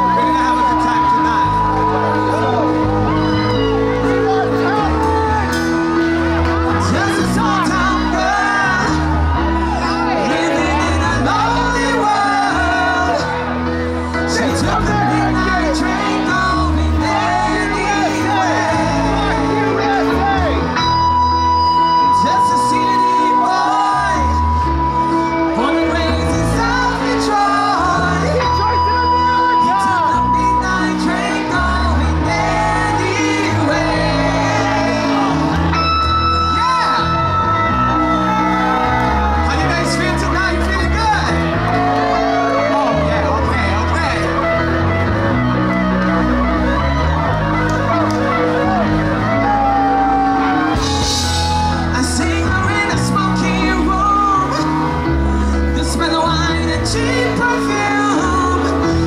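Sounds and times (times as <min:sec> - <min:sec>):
bass and drums: 0:00.0 - 0:59.0
live band playing amplified music: 0:00.0 - 0:59.0
person singing: 0:00.0 - 0:59.0.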